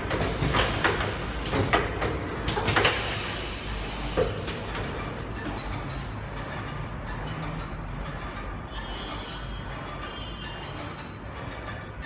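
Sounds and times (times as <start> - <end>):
sharp machine clacks: 0.0 - 12.0.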